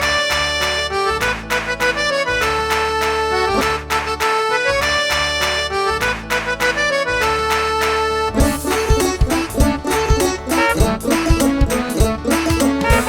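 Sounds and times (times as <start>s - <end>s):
instrumental children's music: 0.0s - 13.0s.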